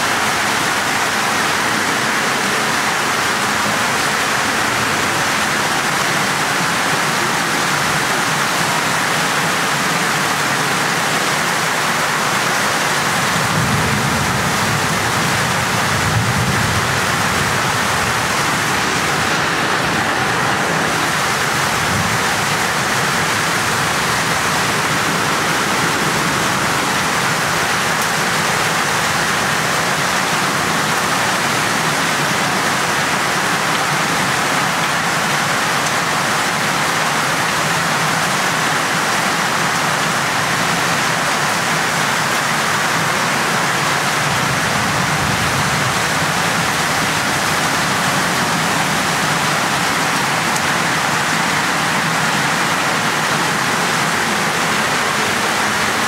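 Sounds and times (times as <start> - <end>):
heavy rain on standing water: 0.0 - 56.0.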